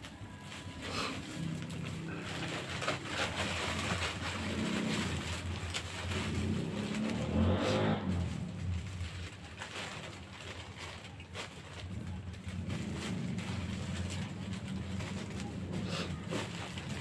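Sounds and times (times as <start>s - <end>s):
plastic bag rustling: 0.0s - 17.0s
steady low rumble: 0.2s - 17.0s.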